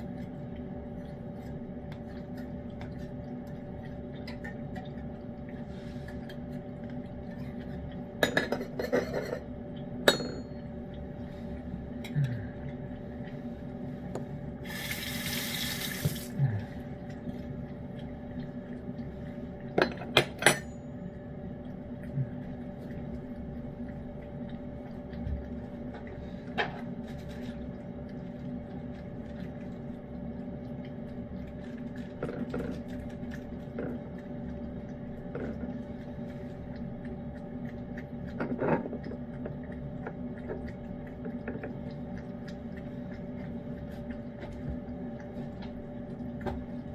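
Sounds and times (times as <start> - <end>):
cat eating wet food: 0.0 - 10.0, 10.6 - 14.6, 16.4 - 20.2, 21.0 - 46.9
steady hum: 0.0 - 46.9.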